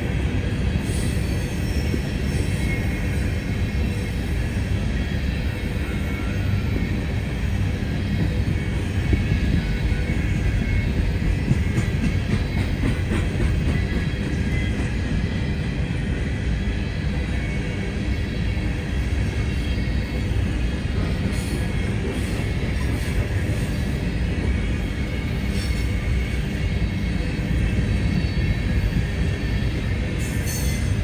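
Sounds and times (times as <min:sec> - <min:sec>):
steel wheels rumbling on rail: 0:00.0 - 0:31.0
train cars clicking and clanking: 0:00.0 - 0:31.0.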